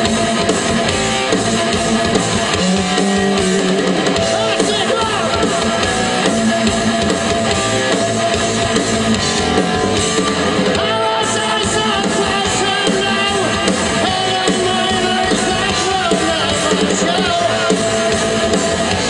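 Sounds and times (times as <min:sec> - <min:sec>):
electric guitar: 0:00.0 - 0:19.0
rock band playing live: 0:00.0 - 0:19.0.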